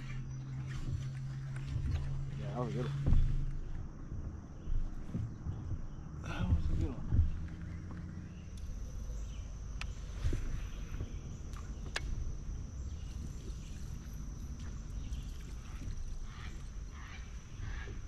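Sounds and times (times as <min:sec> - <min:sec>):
high insect drone: 0:00.0 - 0:18.0
low rumble: 0:00.0 - 0:18.0.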